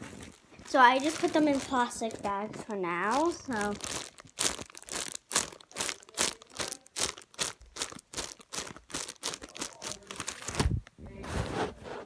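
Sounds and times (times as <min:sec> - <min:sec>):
plastic bags crinkling: 0:00.0 - 0:10.8.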